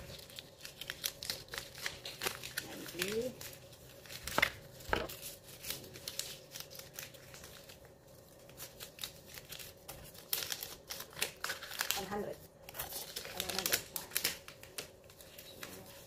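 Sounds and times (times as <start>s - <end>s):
paper banknotes crinkling: 0.0s - 16.0s.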